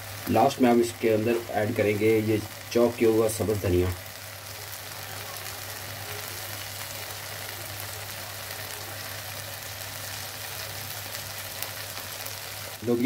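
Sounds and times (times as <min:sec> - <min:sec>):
food sizzling with crackles: 0:00.0 - 0:13.0.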